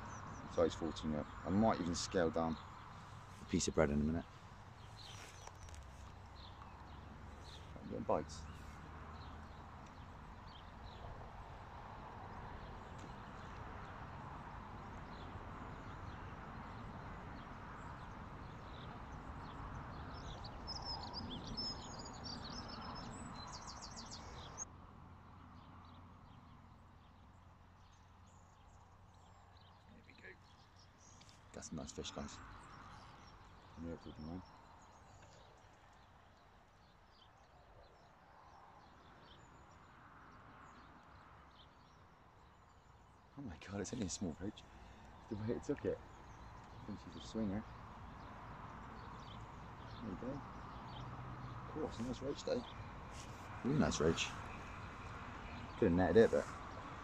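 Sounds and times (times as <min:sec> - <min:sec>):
songbird chirping and trilling: 0:00.0 - 0:24.7, 0:25.4 - 0:57.0
faint riverside ambience: 0:00.0 - 0:57.0
steady outdoor background rush: 0:00.0 - 0:57.0.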